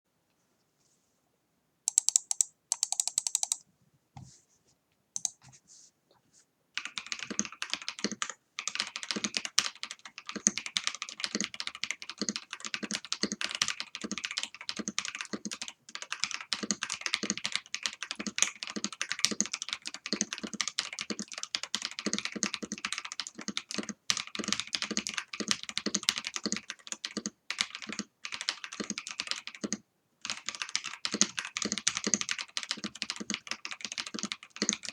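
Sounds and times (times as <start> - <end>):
mechanical keyboard typing: 1.9 - 3.6, 6.8 - 34.9.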